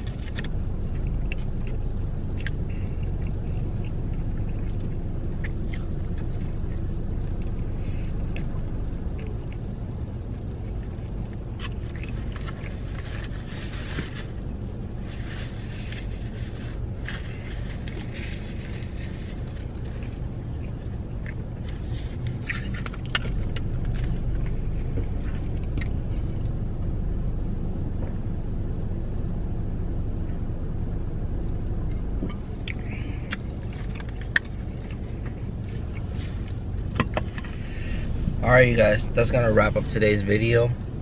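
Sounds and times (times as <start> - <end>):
car engine rumble inside cabin: 0.0 - 41.0.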